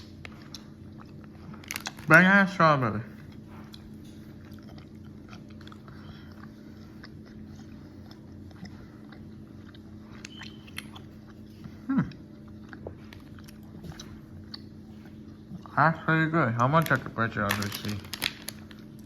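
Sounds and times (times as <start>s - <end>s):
person chewing gummy candy: 0.0s - 2.2s, 3.1s - 19.0s.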